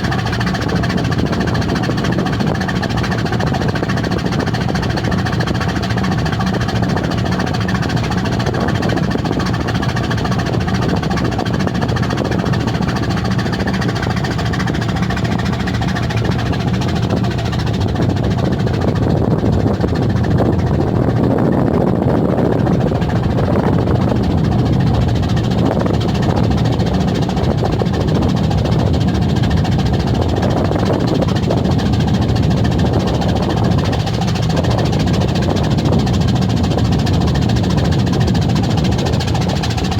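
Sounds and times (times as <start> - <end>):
ship engine drone: 0.0 - 39.9.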